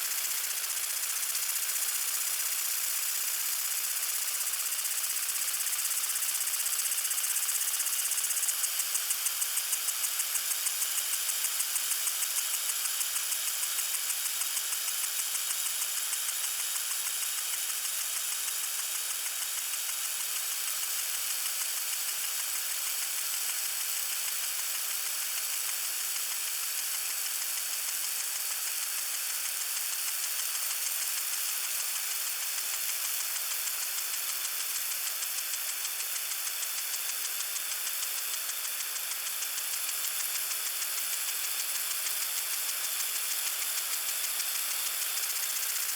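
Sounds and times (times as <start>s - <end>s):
water sprinkler hissing and ticking: 0.0s - 45.9s.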